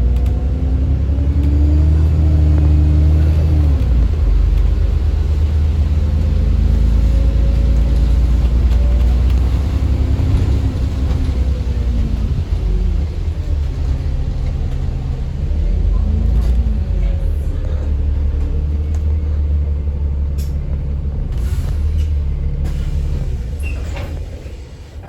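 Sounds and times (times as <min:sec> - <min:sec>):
bus engine pulling under load: 0:00.0 - 0:25.0.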